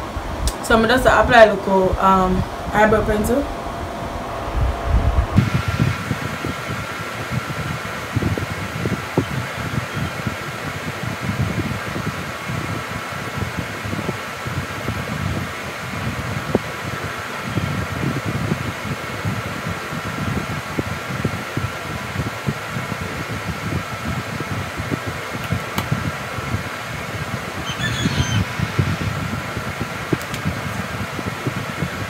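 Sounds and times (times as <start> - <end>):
electric fan whirring: 0.0 - 32.0.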